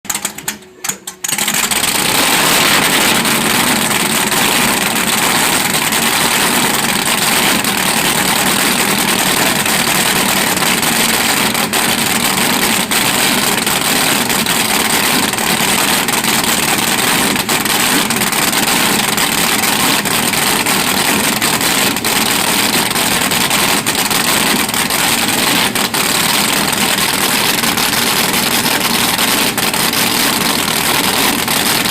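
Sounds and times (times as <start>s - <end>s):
boat engines rumbling: 0.2s - 31.9s.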